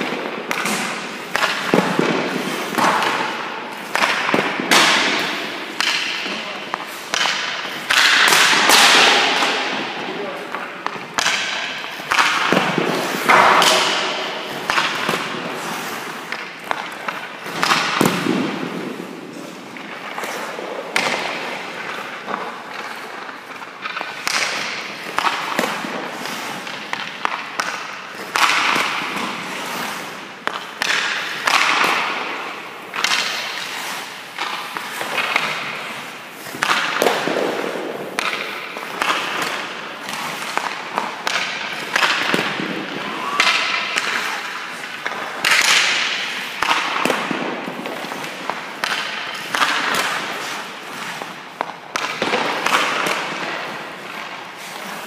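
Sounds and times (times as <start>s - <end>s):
hockey stick slapping pucks: 0.0s - 55.0s
puck thudding on pads or boards: 0.0s - 55.0s.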